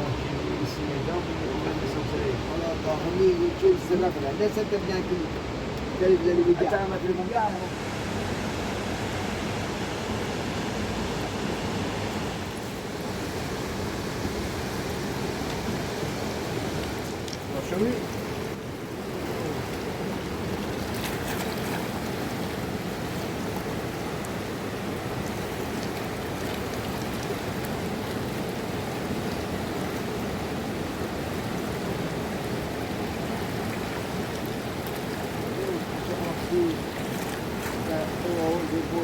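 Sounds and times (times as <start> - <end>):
rushing river water: 0.0 - 39.0.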